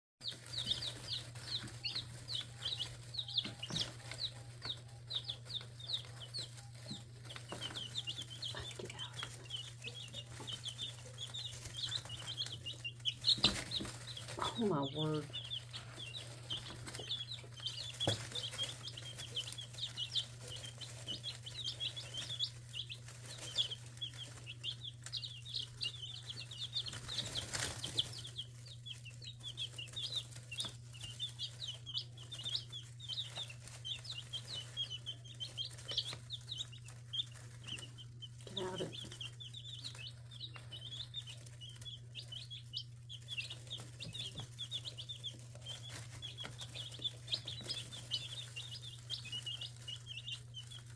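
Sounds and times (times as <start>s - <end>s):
chicks peeping: 0.2s - 50.9s.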